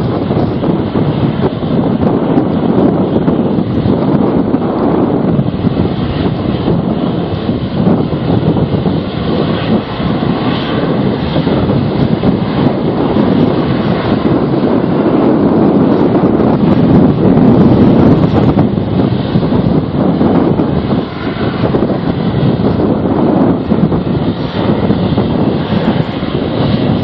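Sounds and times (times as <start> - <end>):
aircraft engine noise: 0.0 - 27.0
wind buffeting microphone: 0.0 - 27.0.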